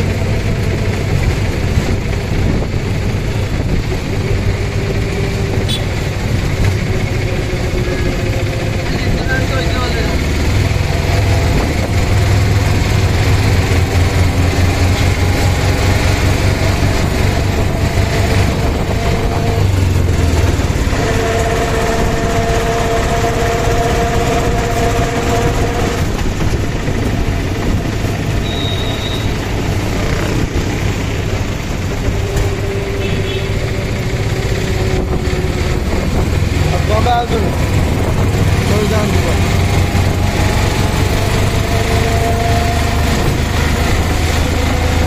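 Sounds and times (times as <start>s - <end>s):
auto-rickshaw engine running: 0.0s - 45.0s
street traffic: 0.0s - 45.0s.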